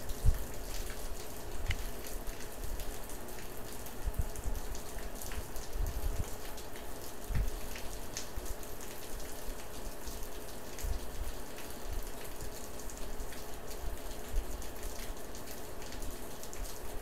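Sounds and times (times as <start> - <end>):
rain drop ticks: 0.0 - 16.8
rain hiss: 0.0 - 17.0.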